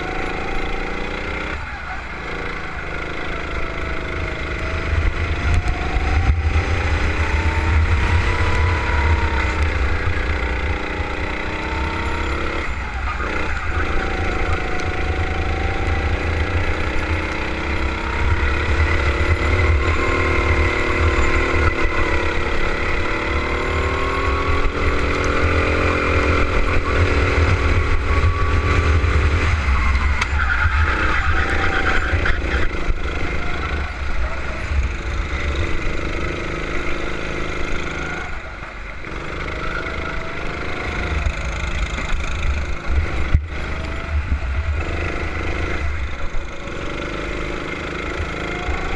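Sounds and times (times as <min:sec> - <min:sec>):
go-kart engine racing: 0:00.0 - 0:48.9.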